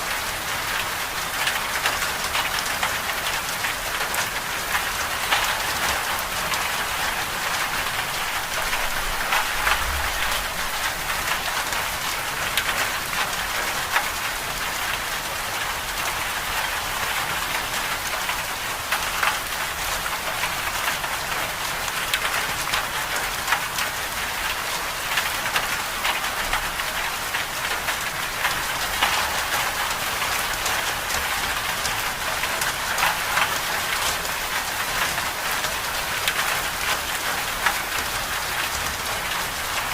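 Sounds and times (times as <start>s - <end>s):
hiss of falling precipitation: 0.0s - 39.9s.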